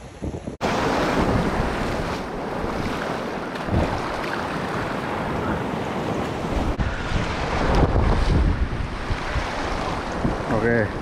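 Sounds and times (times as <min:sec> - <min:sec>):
ocean surf over reef: 0:00.0 - 0:11.0
wind on microphone: 0:00.0 - 0:11.0.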